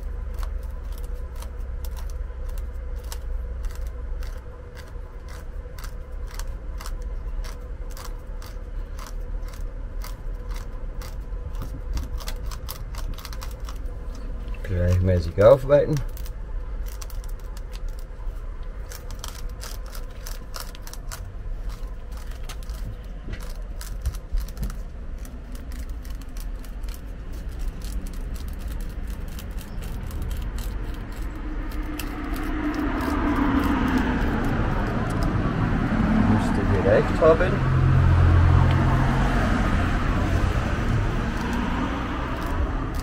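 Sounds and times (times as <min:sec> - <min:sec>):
rasp tool clicking and scratching: 0:00.0 - 0:18.1, 0:18.8 - 0:35.4, 0:42.3 - 0:43.0
steady noise: 0:00.0 - 0:43.0.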